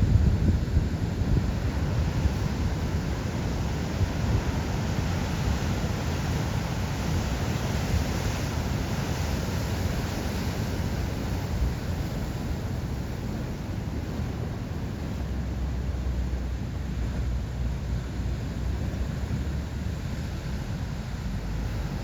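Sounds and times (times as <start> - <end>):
heavy surf waves breaking: 0.0 - 22.0.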